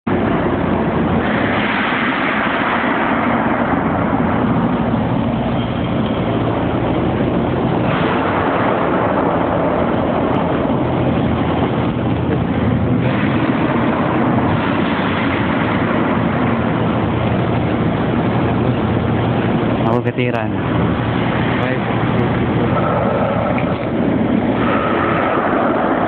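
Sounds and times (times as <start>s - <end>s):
low hum: 0.0s - 26.0s
welder arc crackling: 0.1s - 26.0s.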